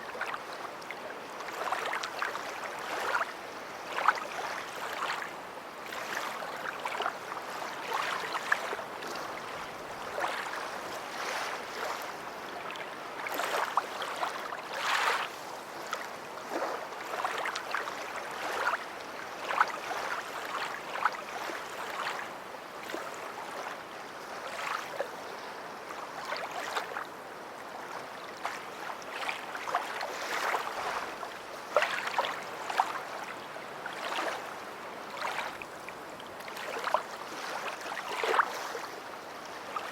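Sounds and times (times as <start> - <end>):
sea waves lapping and splashing: 0.0 - 39.9.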